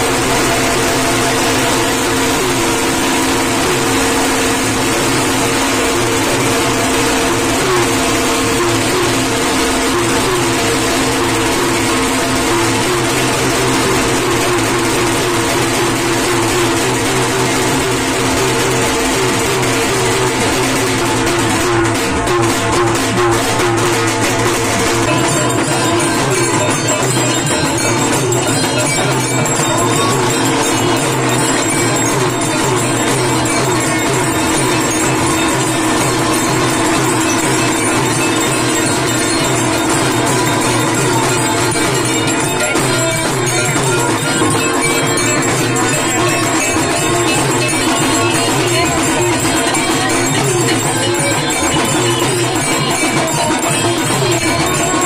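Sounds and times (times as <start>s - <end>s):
loud dense noise: 0.0s - 55.0s
loud music: 0.0s - 55.0s.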